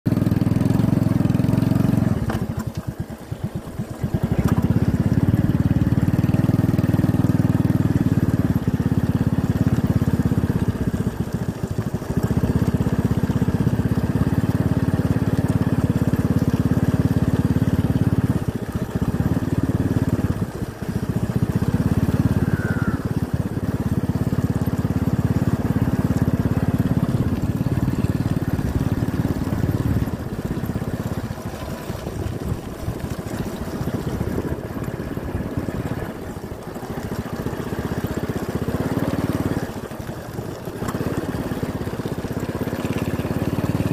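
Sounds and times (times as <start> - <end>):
vehicle running and road noise: 0.0 - 43.9.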